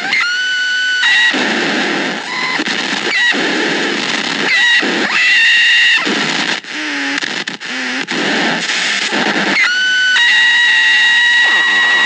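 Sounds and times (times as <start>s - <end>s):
harsh electronic hissing noise: 0.0s - 12.0s.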